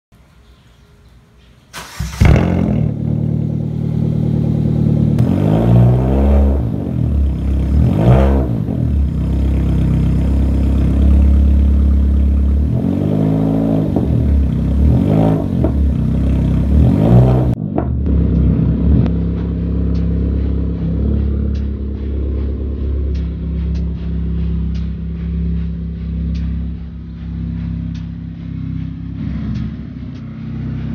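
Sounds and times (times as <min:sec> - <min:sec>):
car engine idling and revving: 0:01.8 - 0:30.9.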